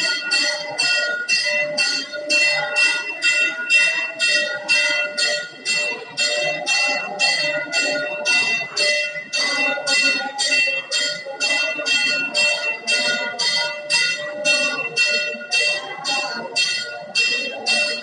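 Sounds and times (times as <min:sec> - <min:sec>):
temple bell rung rapidly: 0:00.0 - 0:18.0.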